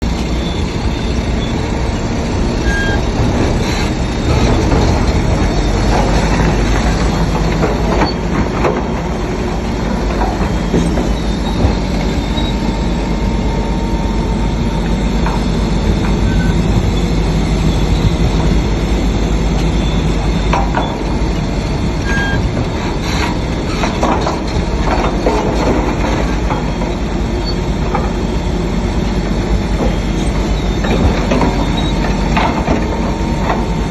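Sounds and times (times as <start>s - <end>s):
bulldozer diesel engine running: 0.0s - 33.9s
steel tracks clanking and squealing: 0.0s - 33.9s.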